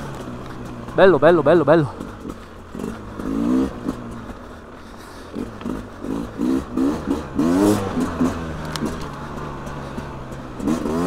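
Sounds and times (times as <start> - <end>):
two-stroke engine throttle blips: 0.0 - 11.0.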